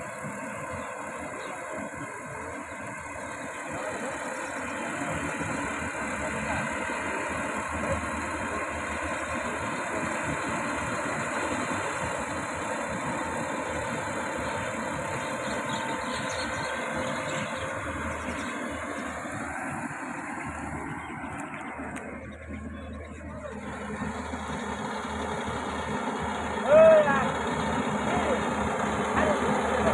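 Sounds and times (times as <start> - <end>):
combine harvester diesel engine: 0.0 - 29.9.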